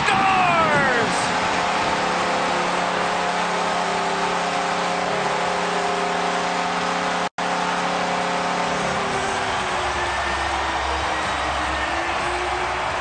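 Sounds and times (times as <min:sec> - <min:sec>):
crowd cheering: 0:00.0 - 0:13.0
goal horn blaring: 0:00.0 - 0:13.0.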